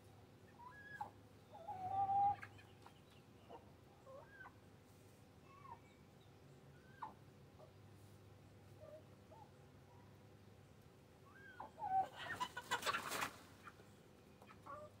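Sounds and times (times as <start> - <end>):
chickens clucking: 0.4 - 10.2, 11.2 - 15.0.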